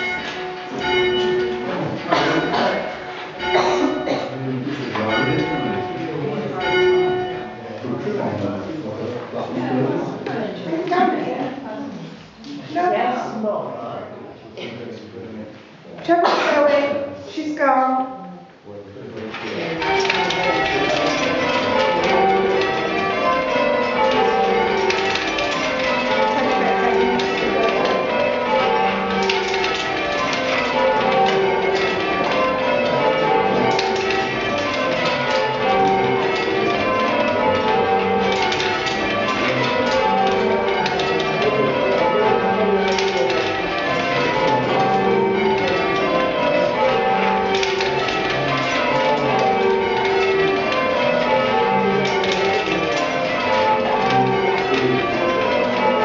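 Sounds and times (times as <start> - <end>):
church bells ringing: 0.0 - 10.2, 19.4 - 56.0.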